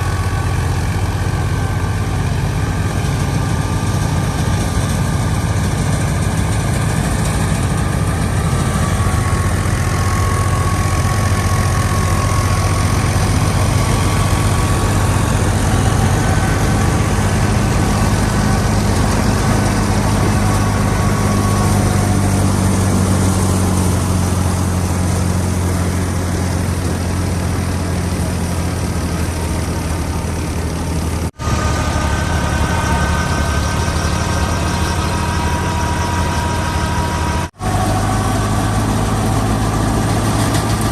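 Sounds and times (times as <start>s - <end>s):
thresher whine: 0.0s - 40.9s
tractor diesel engine running: 0.0s - 40.9s.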